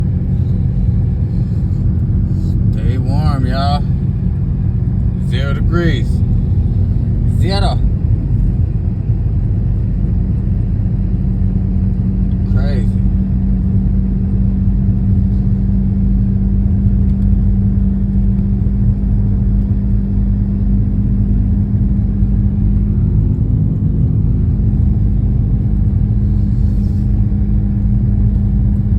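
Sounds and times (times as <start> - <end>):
vehicle engine rumbling: 0.0 - 28.9.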